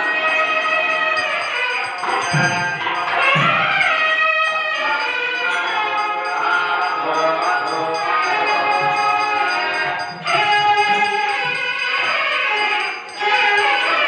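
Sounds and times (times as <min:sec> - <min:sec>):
gliding wavering melody: 0:00.0 - 0:14.0.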